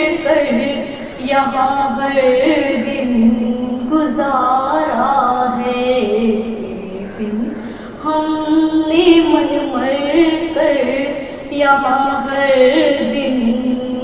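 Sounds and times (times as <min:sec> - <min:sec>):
woman singing a lament: 0:00.0 - 0:14.0.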